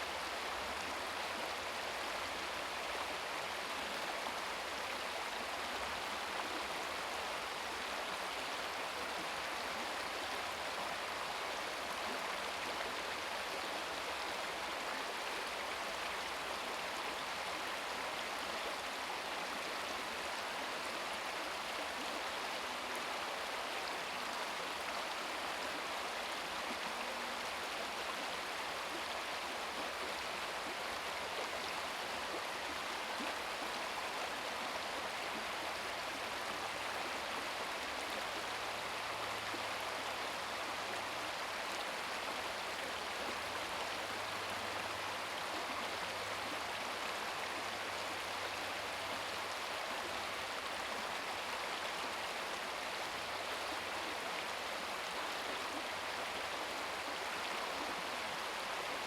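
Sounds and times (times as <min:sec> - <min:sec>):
brook babbling over stones: 0:00.0 - 0:59.0.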